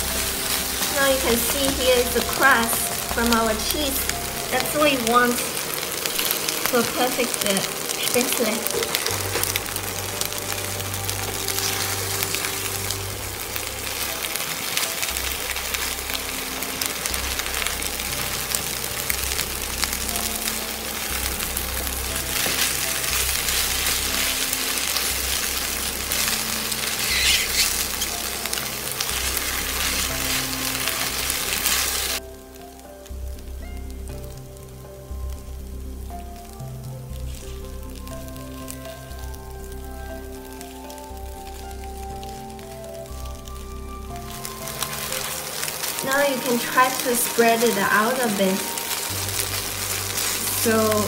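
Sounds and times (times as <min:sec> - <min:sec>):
noodles sizzling in butter: 0:00.0 - 0:51.0.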